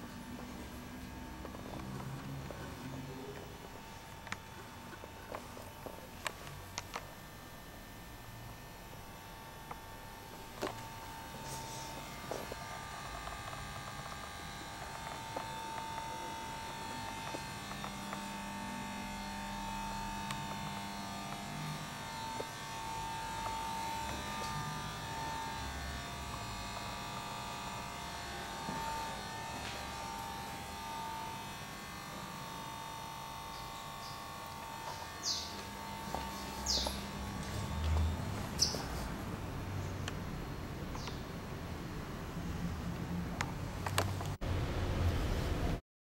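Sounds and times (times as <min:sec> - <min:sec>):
high whine: 0:00.0 - 0:41.3
electrical hum and buzz: 0:00.0 - 0:45.8.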